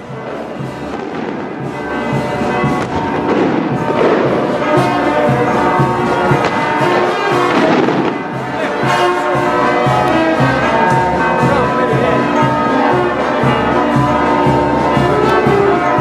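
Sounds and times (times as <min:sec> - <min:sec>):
brass band playing: 0:00.0 - 0:16.0
fireworks bangs: 0:00.0 - 0:16.0.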